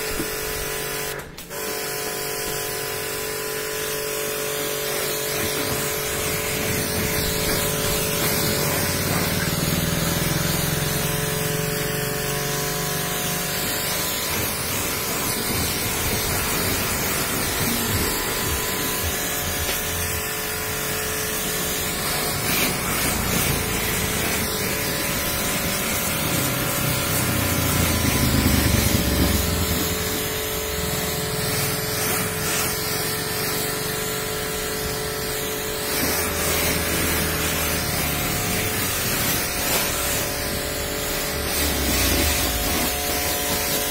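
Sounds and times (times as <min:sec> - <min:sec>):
pressure washer hum: 0:00.0 - 0:43.9
pressure washer spraying water: 0:00.0 - 0:43.9.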